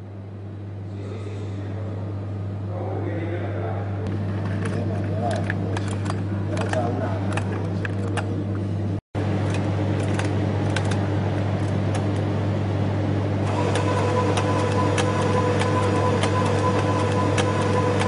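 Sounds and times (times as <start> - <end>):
machine low hum: 0.0 - 18.0.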